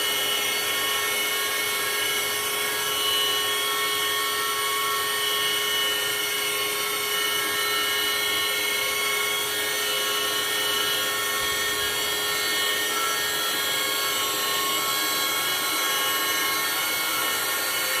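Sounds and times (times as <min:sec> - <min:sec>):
machine whine: 0:00.0 - 0:18.0.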